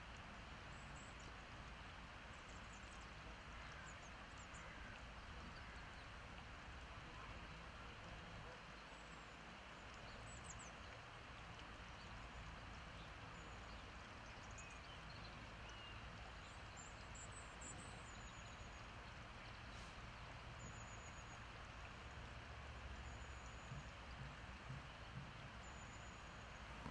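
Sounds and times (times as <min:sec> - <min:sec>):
faint background hiss: 0:00.0 - 0:26.9.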